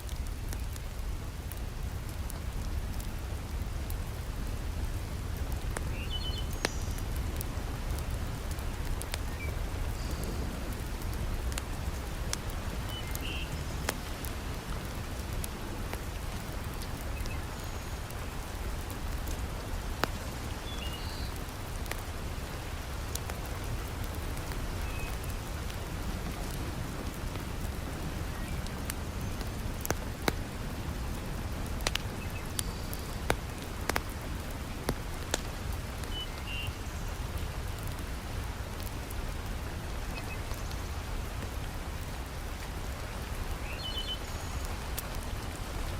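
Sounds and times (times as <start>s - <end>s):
heavy rain falling: 0.0s - 45.9s
wood fire crackling: 0.0s - 45.9s.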